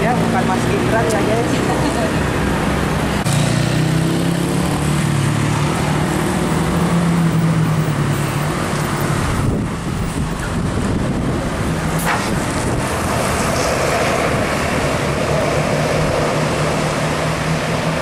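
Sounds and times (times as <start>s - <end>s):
bus driving past: 0.0s - 18.0s
bus engine drone: 0.0s - 18.0s.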